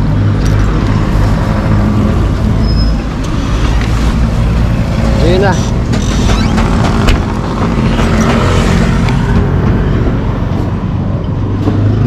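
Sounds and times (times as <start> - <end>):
vehicle engines in traffic: 0.0 - 12.0.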